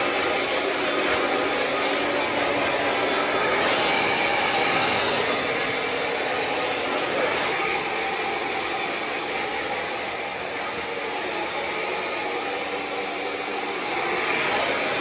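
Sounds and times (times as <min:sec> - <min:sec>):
hair dryer blowing air: 0:00.0 - 0:15.0.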